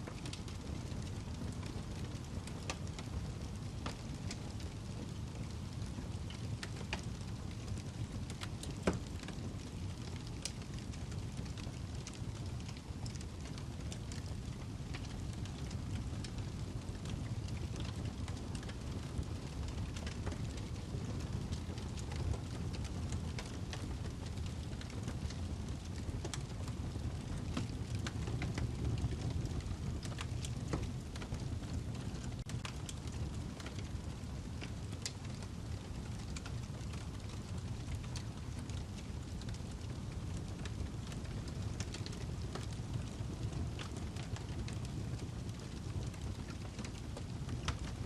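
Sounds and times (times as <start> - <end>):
burning log crackling and popping: 0.0 - 48.0
flames rushing: 0.2 - 48.0.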